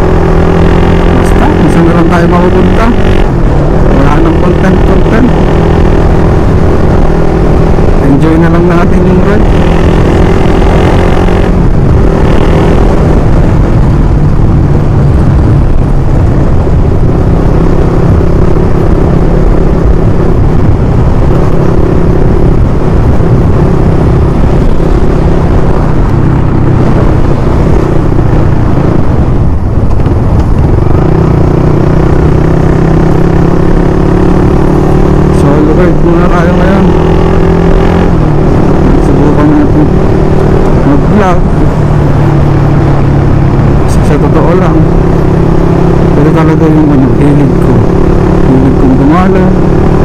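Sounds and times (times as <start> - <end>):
motorcycle engine hum: 0.0 - 50.0
wind noise on microphone: 0.0 - 50.0.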